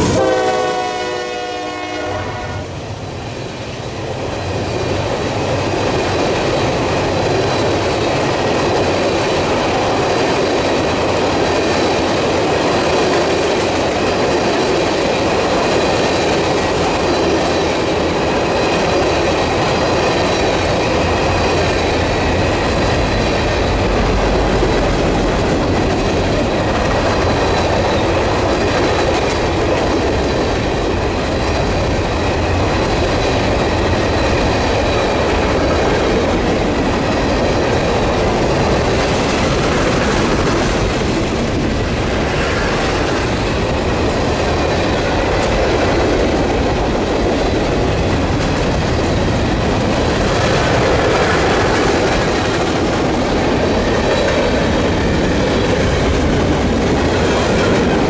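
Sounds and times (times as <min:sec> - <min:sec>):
wheels clickety-clack over rail joints: 0:00.0 - 0:58.0
wheel-on-rail rumble: 0:04.0 - 0:58.0.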